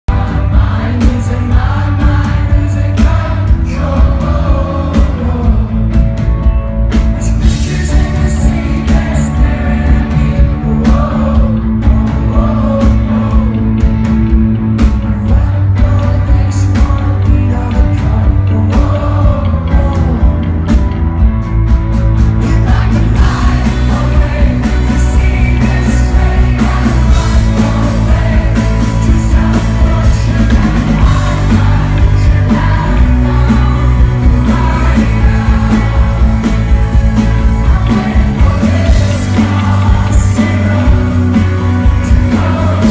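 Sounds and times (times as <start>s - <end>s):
person singing lead vocal: 0.0s - 21.3s, 22.2s - 42.9s
live rock band playing: 0.1s - 42.9s.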